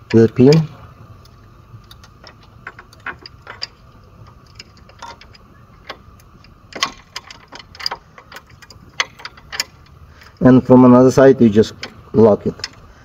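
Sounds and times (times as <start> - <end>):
small metal clicks and clinks: 0.0 - 10.5.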